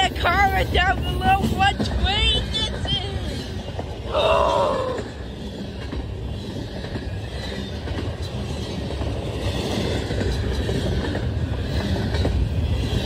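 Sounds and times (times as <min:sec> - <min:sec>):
train wheels rumbling on rails: 0:00.0 - 0:13.0
wheels clacking over track: 0:00.0 - 0:13.0.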